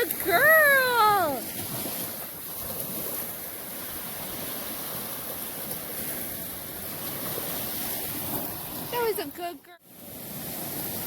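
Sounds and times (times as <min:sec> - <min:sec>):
ocean surf: 0:00.0 - 0:11.0.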